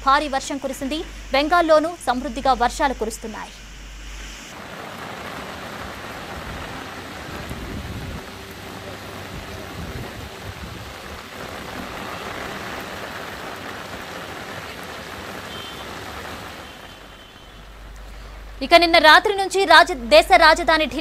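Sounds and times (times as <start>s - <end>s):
heavy rain hissing: 0.0s - 21.0s
tyres on wet asphalt: 0.0s - 21.0s.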